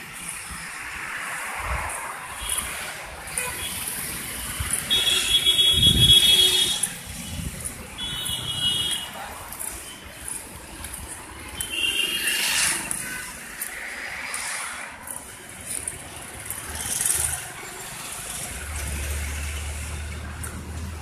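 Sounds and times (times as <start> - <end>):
vehicles passing: 0.0 - 21.0.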